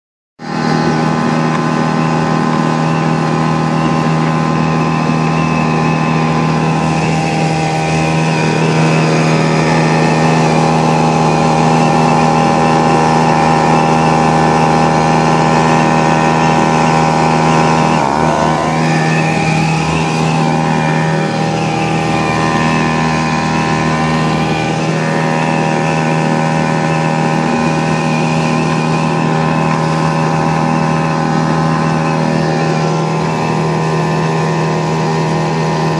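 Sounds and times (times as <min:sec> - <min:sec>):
outboard motor running: 0:00.4 - 0:35.9.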